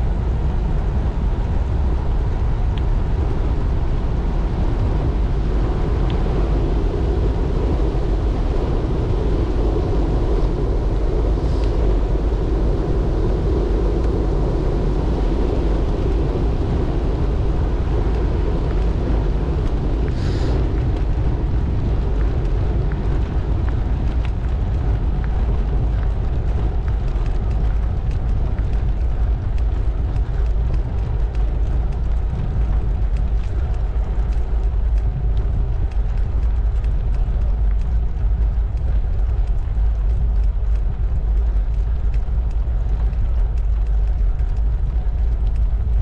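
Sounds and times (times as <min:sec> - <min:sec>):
tyres rolling on coarse road: 0:00.0 - 0:46.0
wind buffeting microphone: 0:00.0 - 0:46.0.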